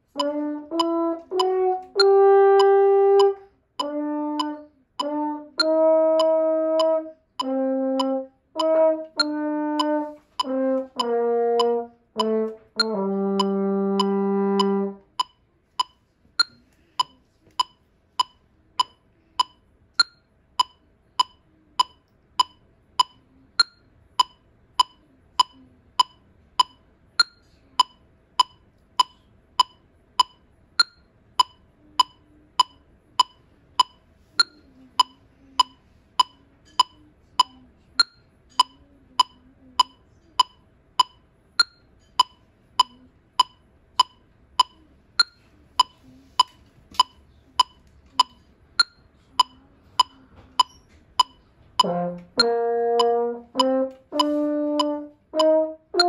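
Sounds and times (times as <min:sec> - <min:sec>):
electronic metronome beeping: 0:00.1 - 0:56.0.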